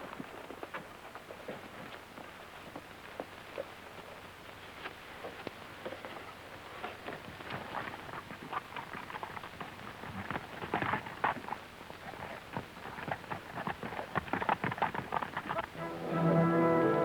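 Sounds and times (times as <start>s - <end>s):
horse hooves clattering: 0.0s - 16.6s.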